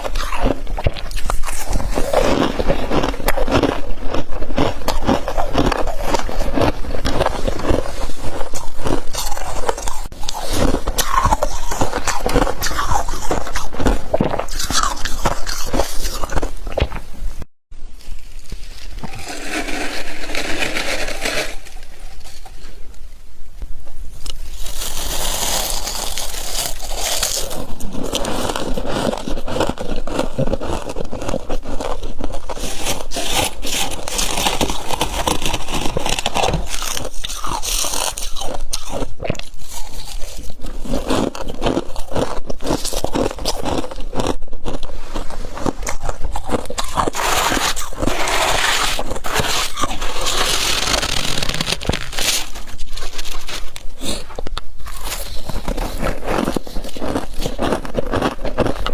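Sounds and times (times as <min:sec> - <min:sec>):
frost crunching and crackling: 0:00.0 - 0:17.1, 0:24.2 - 0:58.9.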